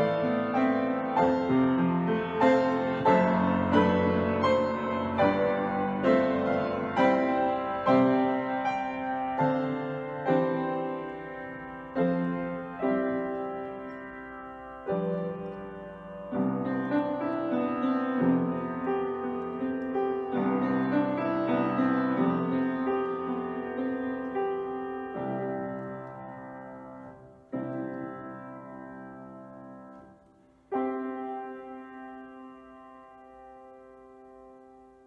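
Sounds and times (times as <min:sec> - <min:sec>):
upright piano playing hymn: 0:00.0 - 0:35.0.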